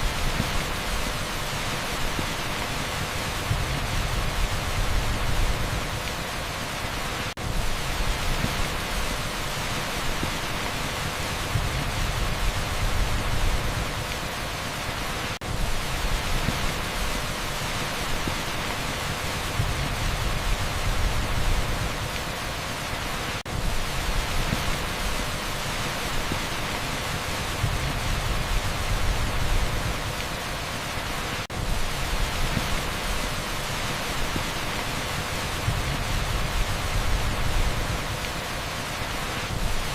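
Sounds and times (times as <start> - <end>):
heavy rain on asphalt: 0.0 - 39.9.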